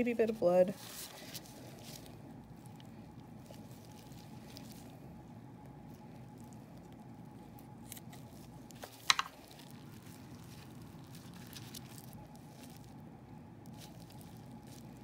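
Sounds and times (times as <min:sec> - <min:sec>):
low room hum: 0:00.0 - 0:15.0
handling raw chicken: 0:00.7 - 0:15.0.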